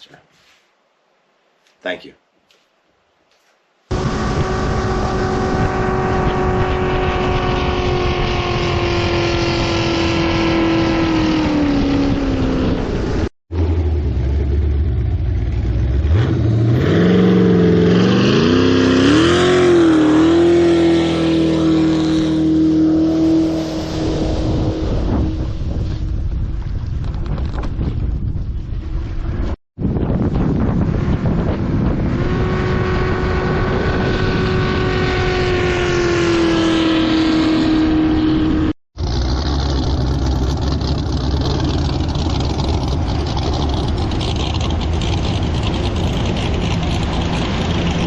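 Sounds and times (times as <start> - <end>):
boat engine revving: 3.9 - 26.1, 30.8 - 48.0.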